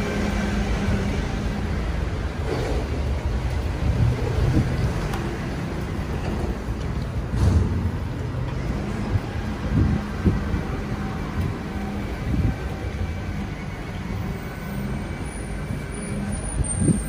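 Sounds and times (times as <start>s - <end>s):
passing traffic rumble: 0.0s - 17.0s
vehicle engine hum: 0.0s - 17.0s.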